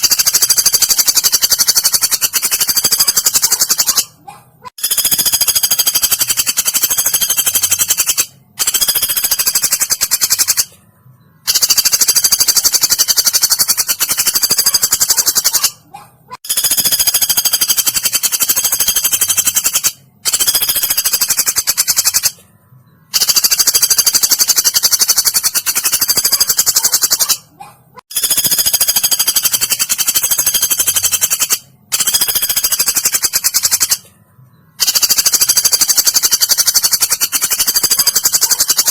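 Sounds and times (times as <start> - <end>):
woodpecker rattling trills: 0.0 - 10.8, 11.4 - 15.8, 16.4 - 22.4, 23.1 - 34.1, 34.8 - 38.9.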